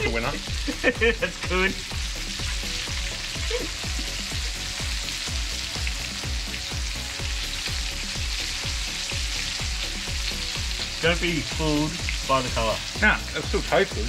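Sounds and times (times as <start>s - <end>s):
fish sizzling in oil: 0.0s - 14.0s
low thumping beat: 0.0s - 14.0s.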